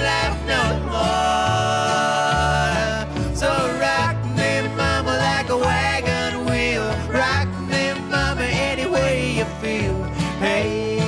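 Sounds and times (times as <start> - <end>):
country bluegrass song: 0.0 - 11.0.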